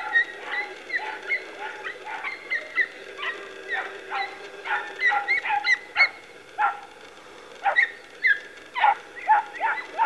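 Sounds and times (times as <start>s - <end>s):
dogs yelping: 0.0s - 7.0s, 7.6s - 10.0s.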